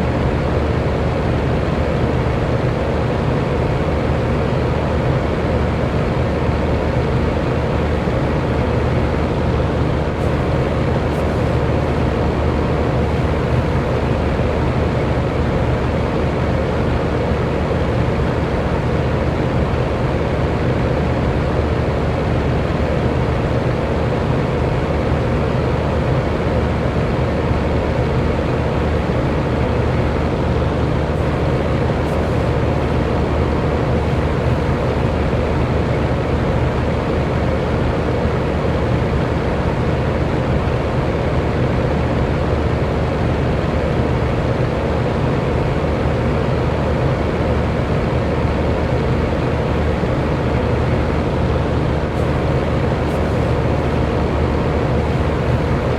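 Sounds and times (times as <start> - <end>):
electric fan running: 0.0 - 55.9.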